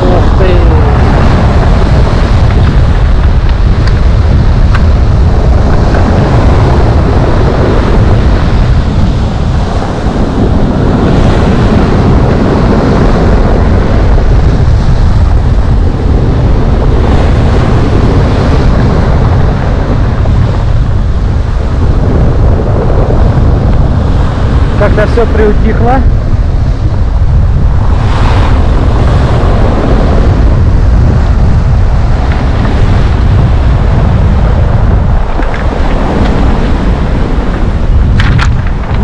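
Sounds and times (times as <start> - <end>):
heavy surf breaking: 0.0 - 39.0
strong wind on microphone: 0.0 - 39.0.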